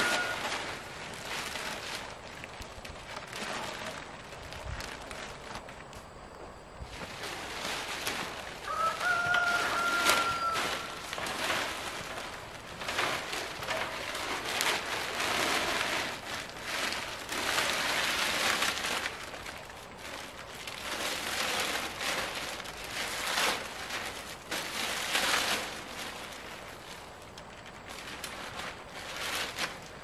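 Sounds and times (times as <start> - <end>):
plastic sheet rustling: 0.0 - 6.1, 6.8 - 30.0.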